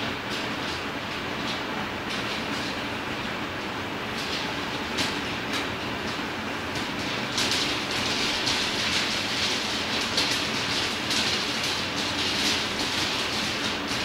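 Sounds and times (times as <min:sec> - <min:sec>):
film projector rattle and whir: 0:00.0 - 0:14.0.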